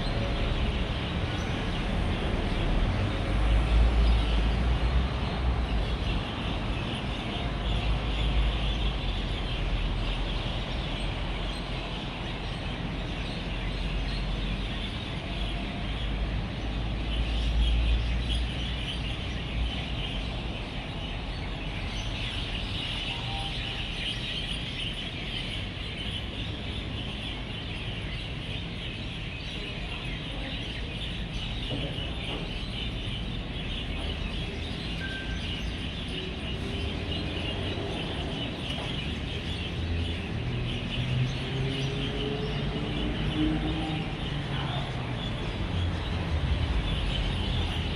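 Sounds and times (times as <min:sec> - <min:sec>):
flock of birds chirping: 0:00.0 - 0:47.9
passing traffic rumble: 0:00.0 - 0:47.9.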